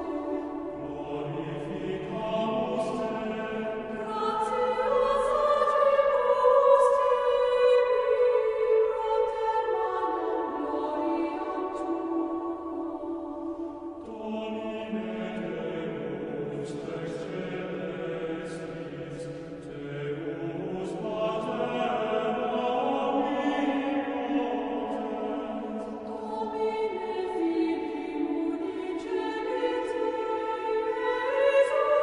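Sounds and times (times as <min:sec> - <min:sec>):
slow choral chanting: 0:00.0 - 0:32.0.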